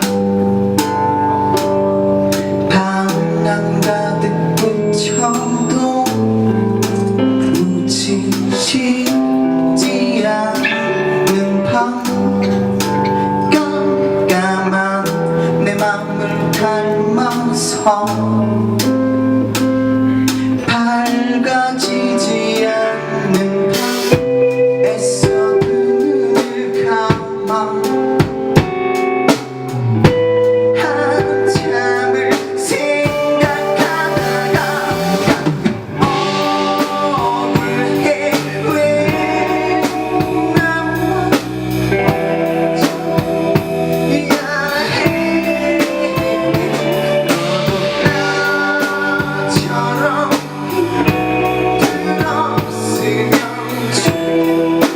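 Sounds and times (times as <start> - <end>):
rock band playing live: 0.0 - 54.9.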